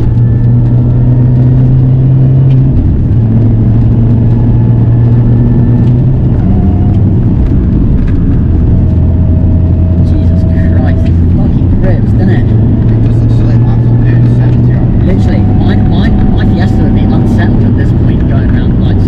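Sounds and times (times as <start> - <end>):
car engine low drone: 0.0 - 19.0.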